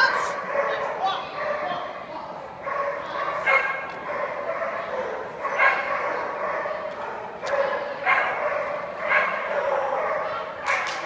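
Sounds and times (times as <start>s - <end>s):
dog barking: 0.0s - 2.0s, 2.6s - 11.0s.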